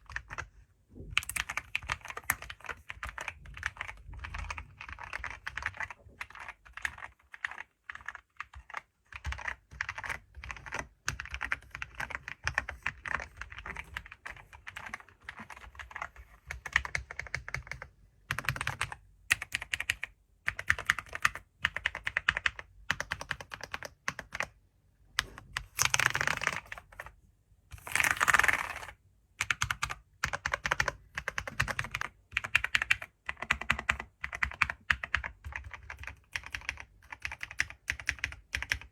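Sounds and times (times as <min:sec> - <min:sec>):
typing on computer keyboard: 0:00.0 - 0:27.1, 0:27.8 - 0:38.9.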